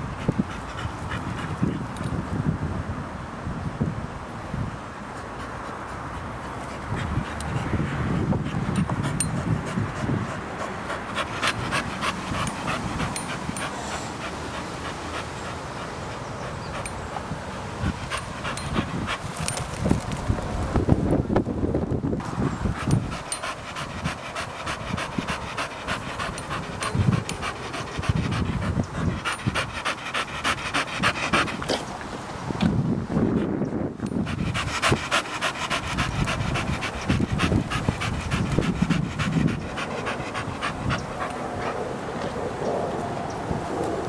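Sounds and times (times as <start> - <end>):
dog panting: 0.0 - 2.0, 5.1 - 19.8, 22.6 - 32.0, 33.4 - 42.8.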